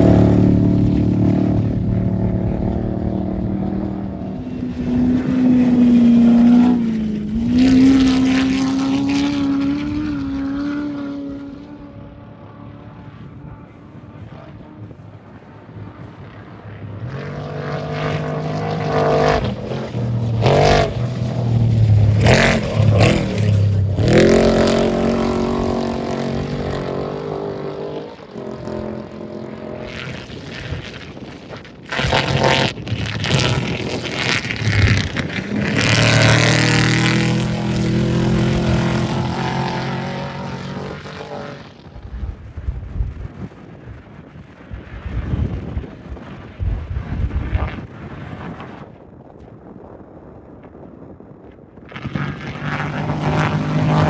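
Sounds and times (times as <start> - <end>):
race vehicle engines passing: 0.0 - 42.3, 51.9 - 54.0.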